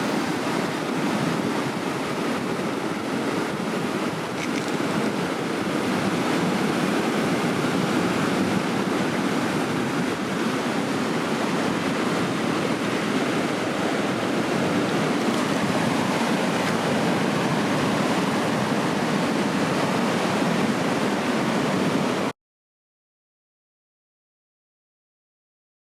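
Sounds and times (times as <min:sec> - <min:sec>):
ocean surf breaking: 0:00.0 - 0:22.3.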